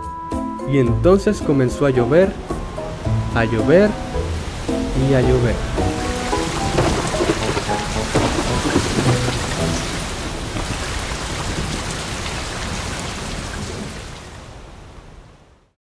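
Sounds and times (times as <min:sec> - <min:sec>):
heavy rain: 0:01.8 - 0:15.8
low thunder rumbling: 0:02.2 - 0:15.4.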